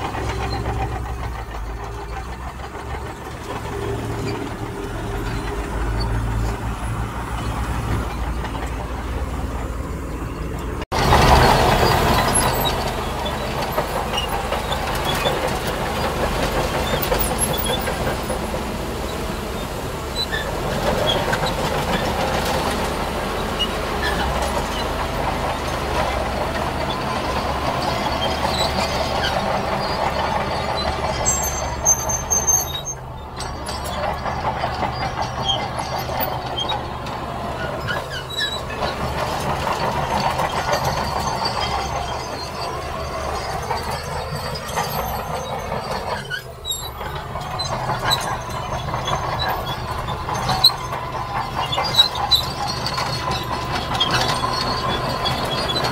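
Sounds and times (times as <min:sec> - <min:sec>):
heavy diesel machinery engines: 0:00.0 - 0:55.9.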